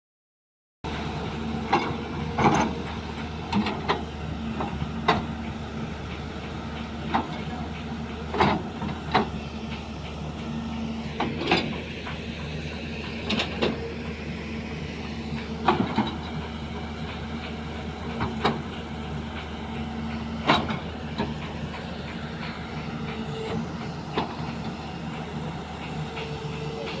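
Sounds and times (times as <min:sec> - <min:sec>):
diesel engine running: 0:00.9 - 0:27.0
metallic clanks and knocks: 0:01.6 - 0:27.0.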